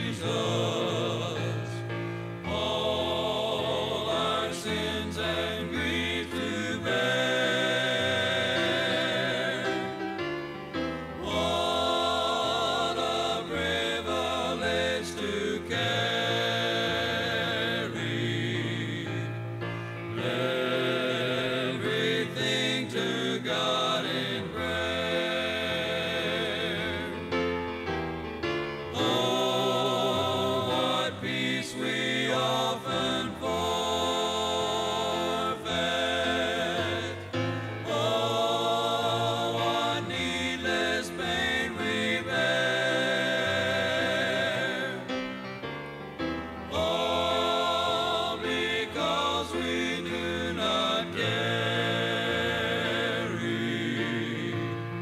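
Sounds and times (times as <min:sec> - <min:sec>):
vocal quartet singing a hymn: 0:00.0 - 0:55.0.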